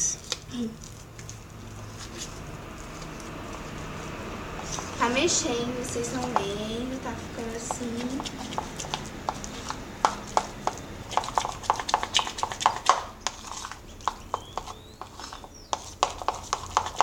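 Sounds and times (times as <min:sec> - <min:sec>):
spoon stirring slime in a bowl: 0:00.2 - 0:17.0.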